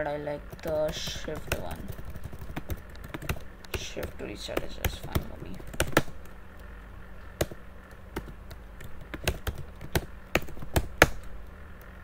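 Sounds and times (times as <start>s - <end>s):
faint low hum: 0.0s - 12.0s
keyboard key presses: 0.5s - 6.3s, 7.4s - 11.3s.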